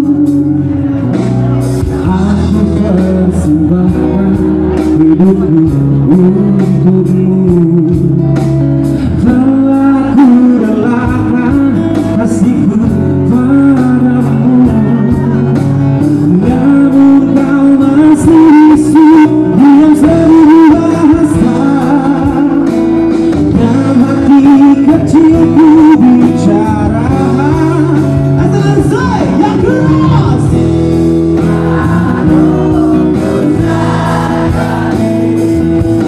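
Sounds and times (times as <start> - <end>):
man singing: 0.0 - 1.2, 1.8 - 36.0
guitar accompaniment: 0.0 - 36.0.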